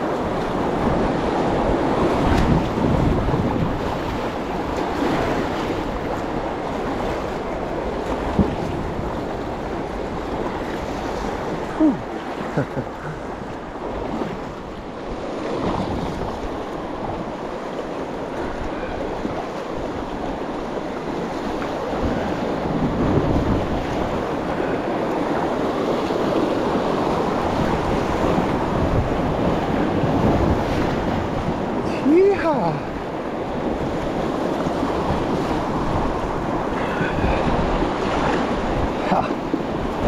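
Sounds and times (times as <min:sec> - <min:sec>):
rapids rushing: 0:00.0 - 0:40.0
wind buffeting microphone: 0:00.0 - 0:40.0.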